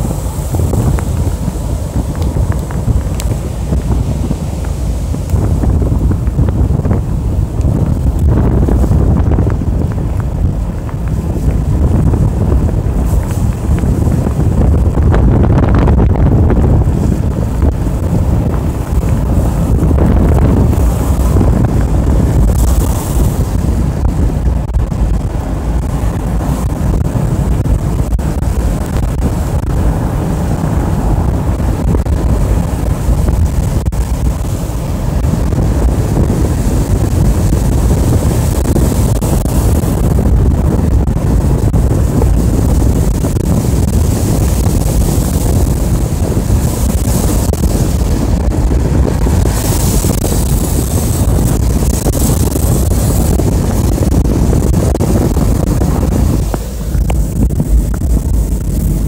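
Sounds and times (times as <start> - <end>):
car engine and tyre rumble: 0.0 - 59.0
road hiss: 0.0 - 59.0.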